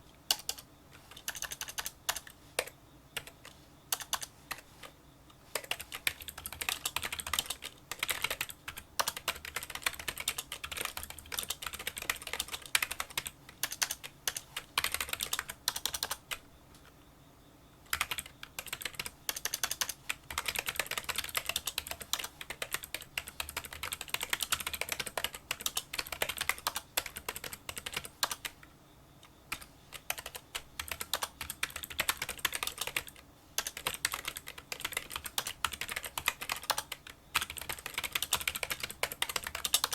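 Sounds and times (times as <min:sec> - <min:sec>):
keyboard typing clicks: 0:00.3 - 0:04.6, 0:05.5 - 0:16.2, 0:17.9 - 0:28.6, 0:29.2 - 0:39.9.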